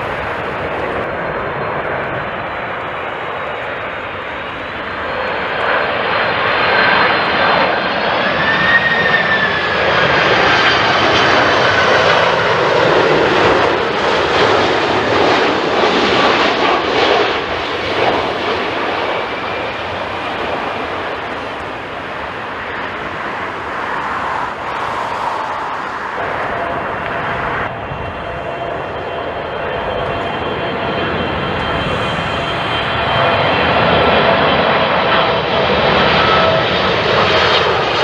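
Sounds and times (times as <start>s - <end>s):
jet airliner flying past: 0.0s - 38.0s.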